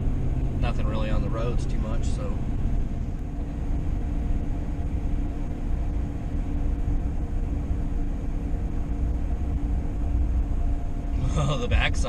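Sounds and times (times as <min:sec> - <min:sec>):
car cabin road rumble: 0:00.0 - 0:12.0
faint steady hum: 0:00.0 - 0:12.0.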